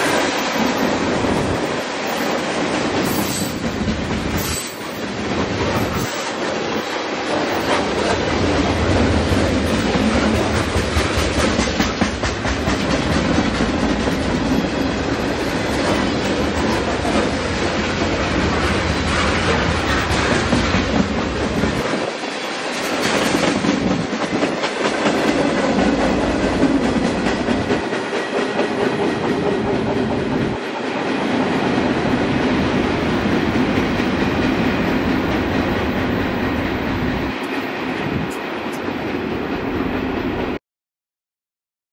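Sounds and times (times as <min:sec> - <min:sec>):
train wheels clicking over rail joints: 0:00.0 - 0:40.5.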